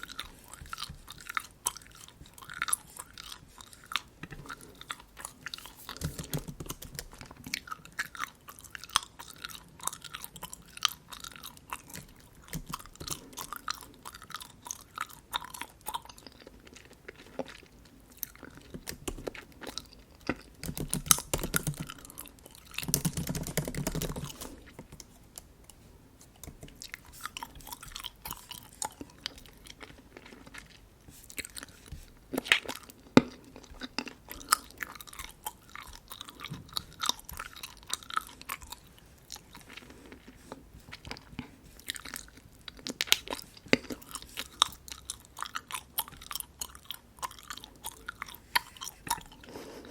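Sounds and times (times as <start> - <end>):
gum chewing wet smacks: 0.0 - 49.9.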